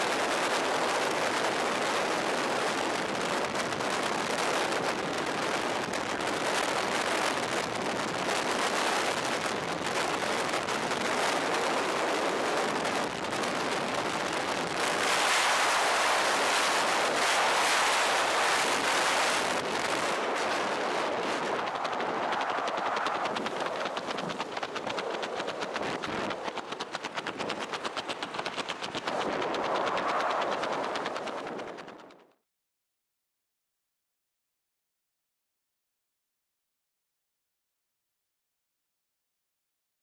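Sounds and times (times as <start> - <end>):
wind buffeting microphone: 0.0 - 32.2.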